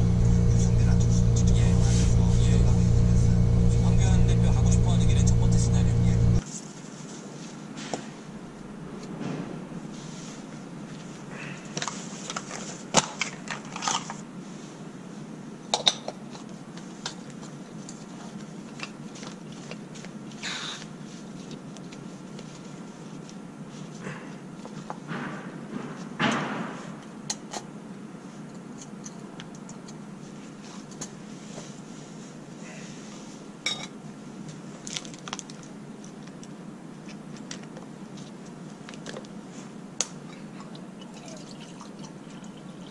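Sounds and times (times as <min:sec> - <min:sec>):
low background noise: 0:00.0 - 0:42.9.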